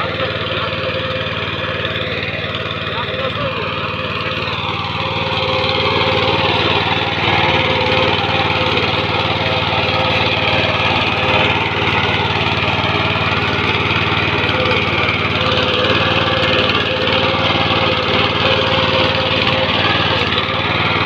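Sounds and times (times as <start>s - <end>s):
rotary tiller engine running: 0.0s - 21.0s.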